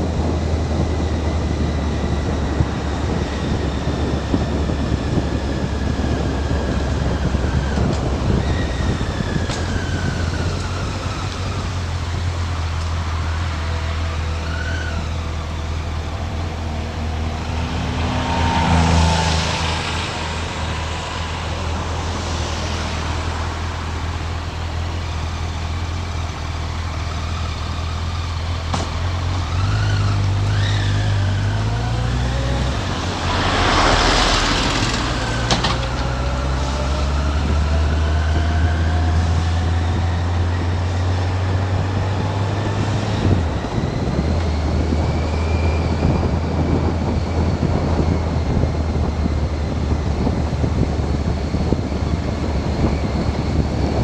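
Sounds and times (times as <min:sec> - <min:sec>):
wind noise on microphone: 0:00.0 - 0:24.9, 0:28.7 - 0:54.0.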